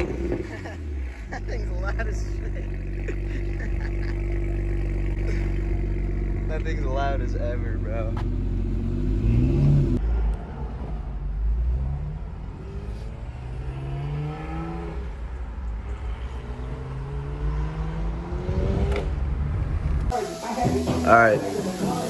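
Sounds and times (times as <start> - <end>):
car engine accelerating: 0.0 - 20.2
road rumble: 0.0 - 22.0.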